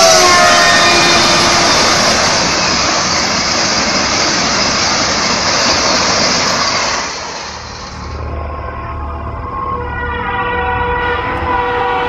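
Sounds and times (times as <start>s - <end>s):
train passing at high speed: 0.0s - 12.0s.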